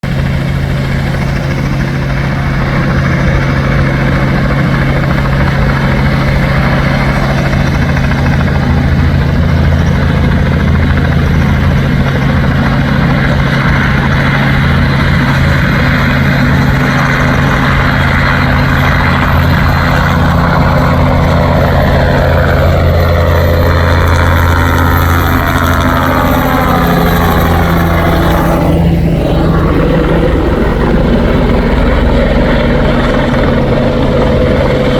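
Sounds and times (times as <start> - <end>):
helicopter rotor drone: 0.0 - 34.9.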